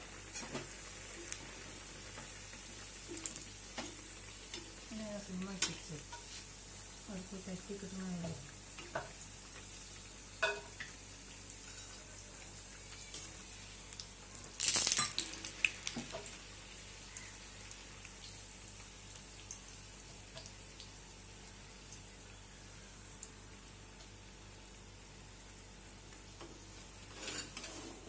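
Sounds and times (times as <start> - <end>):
deep-frying sizzle: 0.0 - 28.0
sharp oil crackles and pops: 0.2 - 7.1, 8.4 - 27.4.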